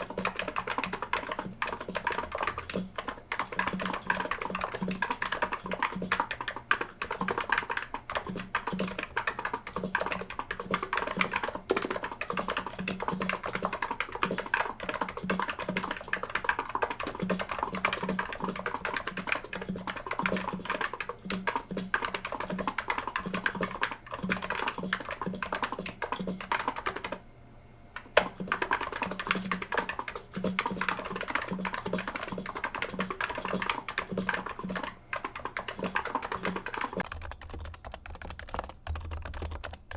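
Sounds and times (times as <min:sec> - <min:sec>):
fast keyboard typing: 0:00.0 - 0:27.2, 0:28.0 - 0:39.9.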